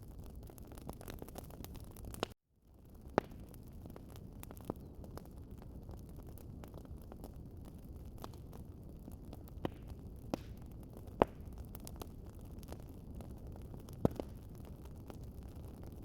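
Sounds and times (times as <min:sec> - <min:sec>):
wood fire crackling: 0:00.0 - 0:16.0
sharp pops of burning wood: 0:00.3 - 0:16.0.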